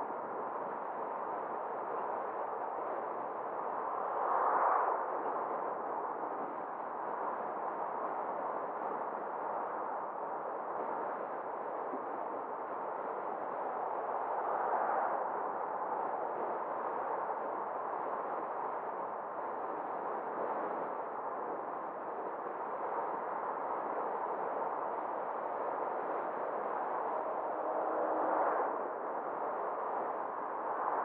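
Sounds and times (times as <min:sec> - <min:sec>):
car road and tyre noise: 0:00.0 - 0:10.0, 0:12.3 - 0:31.0.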